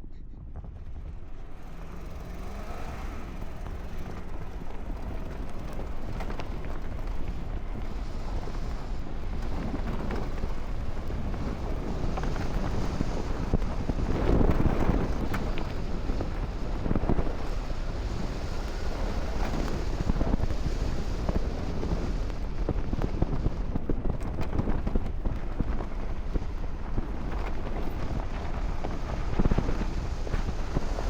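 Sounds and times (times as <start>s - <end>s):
engine and tyre rumble: 0.0s - 31.0s
wind buffeting microphone: 0.0s - 31.0s.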